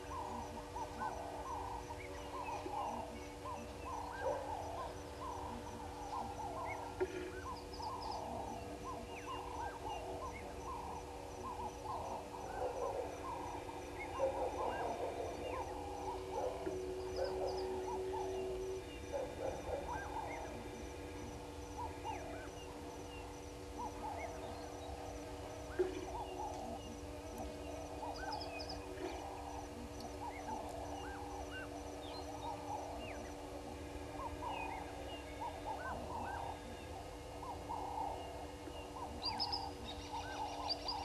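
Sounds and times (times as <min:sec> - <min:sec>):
faint steady hum: 0:00.0 - 0:41.0
wild birds calling and cooing: 0:00.0 - 0:41.0.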